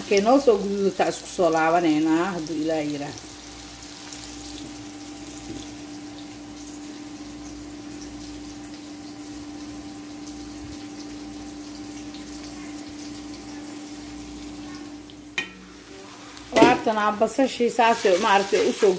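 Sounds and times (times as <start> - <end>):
onions sizzling in frying pan: 0.0 - 18.9.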